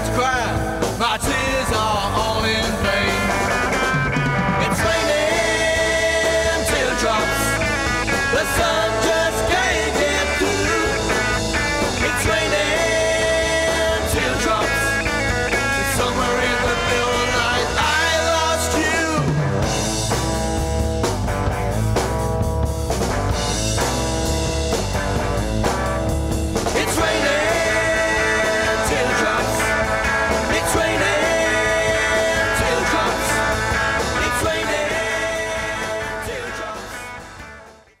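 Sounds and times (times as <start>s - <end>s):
drum kit: 0.0s - 38.0s
rock song on electric guitar: 0.0s - 38.0s.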